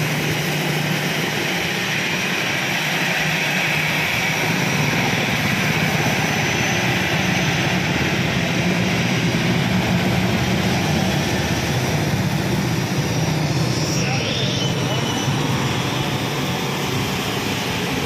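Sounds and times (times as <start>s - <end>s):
traffic passing on wet road: 0.0s - 12.6s, 14.8s - 18.0s
jet engines at taxi power: 0.0s - 18.0s.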